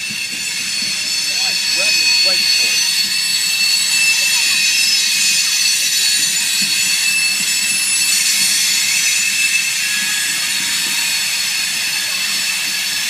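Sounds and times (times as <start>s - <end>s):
train cars rolling: 0.0s - 13.0s
wheels squealing on rails: 0.0s - 13.0s.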